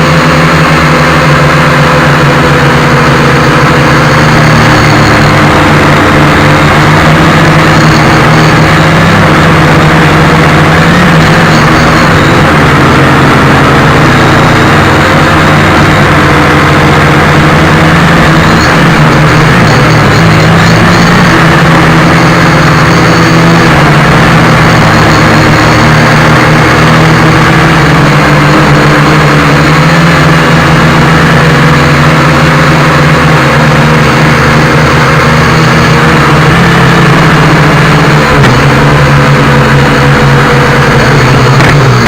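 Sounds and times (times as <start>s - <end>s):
motor humming and whirring: 0.0s - 42.0s.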